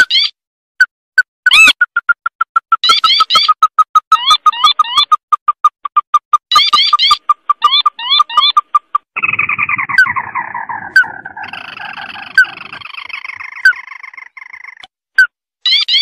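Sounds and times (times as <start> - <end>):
bird chirps: 1.4 - 16.0
rattling bird trill: 1.5 - 16.0.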